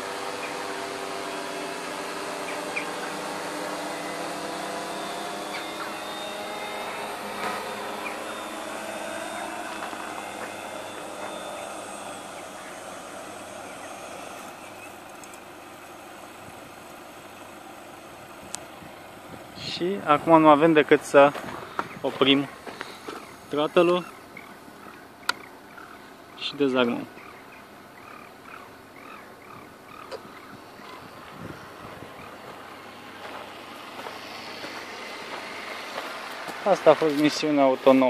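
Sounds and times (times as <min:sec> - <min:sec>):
drone propellers humming: 0:00.0 - 0:38.0.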